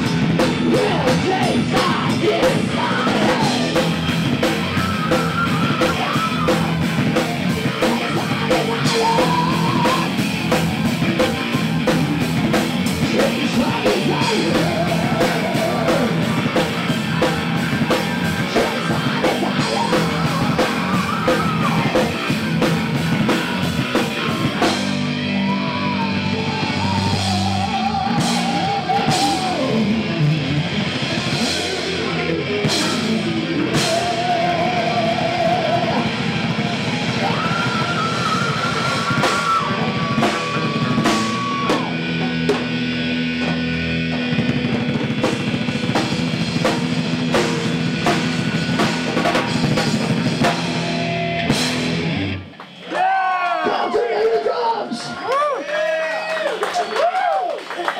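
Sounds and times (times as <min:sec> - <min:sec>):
heavy metal band playing live: 0:00.0 - 0:52.6.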